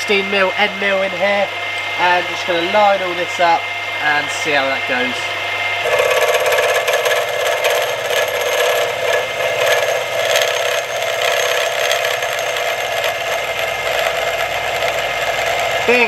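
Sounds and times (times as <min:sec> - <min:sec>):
milling machine motor: 0:00.9 - 0:16.0.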